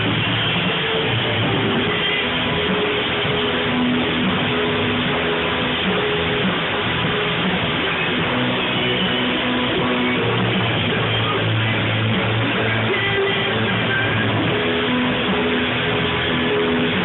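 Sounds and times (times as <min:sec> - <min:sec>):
live band with loud guitars: 0:00.0 - 0:17.0.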